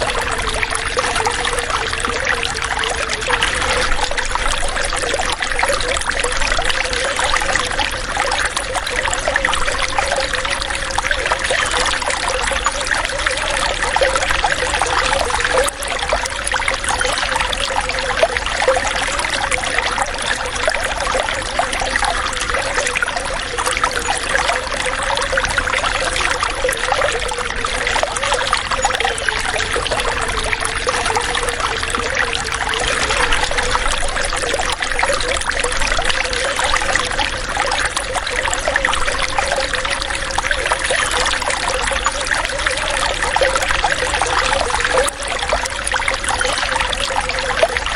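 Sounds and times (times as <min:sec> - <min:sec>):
low water gurgle: 0:00.0 - 0:47.9
water running and trickling: 0:00.0 - 0:47.9.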